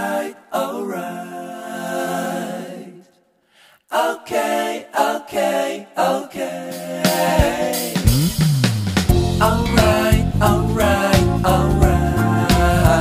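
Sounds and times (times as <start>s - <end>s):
unaccompanied singing: 0.0s - 3.3s, 3.9s - 8.0s, 9.3s - 13.0s.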